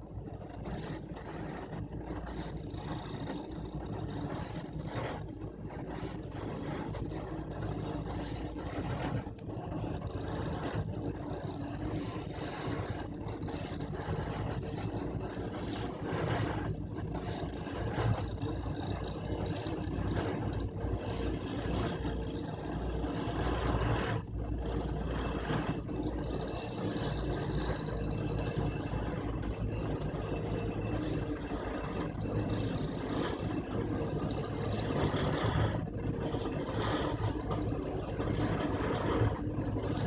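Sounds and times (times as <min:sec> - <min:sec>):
track machine mechanical hum: 0:00.0 - 0:40.0.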